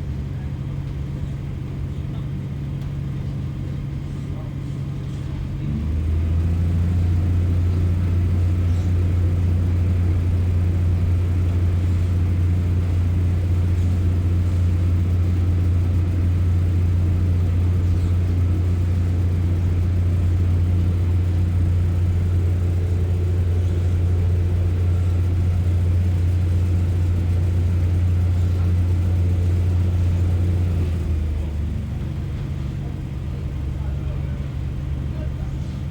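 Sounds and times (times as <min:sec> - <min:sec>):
diesel engine drone: 0:00.0 - 0:35.9.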